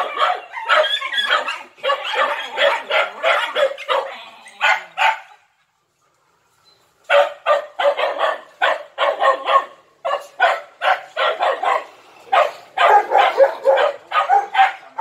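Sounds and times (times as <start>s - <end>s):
dogs barking: 0.0s - 5.4s, 7.1s - 15.0s.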